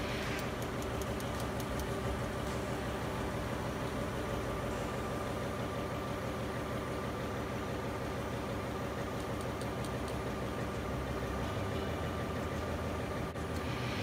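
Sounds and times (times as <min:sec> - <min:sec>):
diesel machinery droning: 0:00.0 - 0:14.0.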